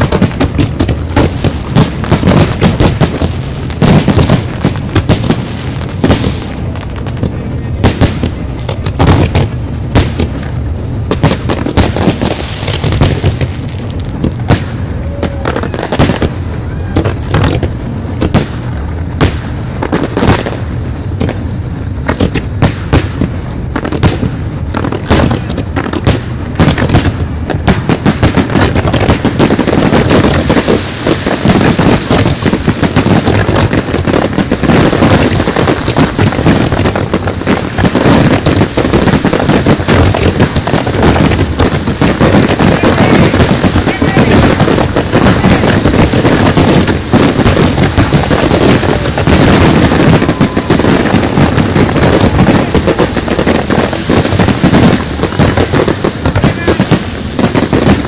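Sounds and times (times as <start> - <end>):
fireworks bangs and crackles: 0.0 - 58.0
low rumble of bursting shells: 0.0 - 58.0.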